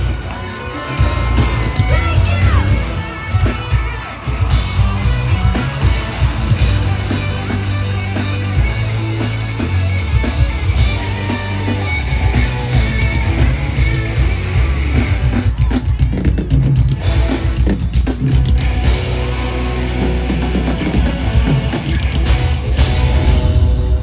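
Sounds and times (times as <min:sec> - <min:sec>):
electric guitar: 0:00.0 - 0:24.0
heavy pulsing bass: 0:00.0 - 0:24.0
loud live concert music: 0:00.0 - 0:24.0.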